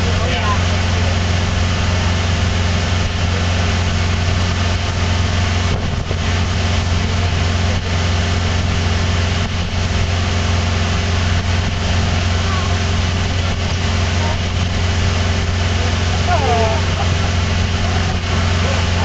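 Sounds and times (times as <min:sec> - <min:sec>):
outboard motor drone: 0:00.0 - 0:19.0
wake water rushing: 0:00.0 - 0:19.0.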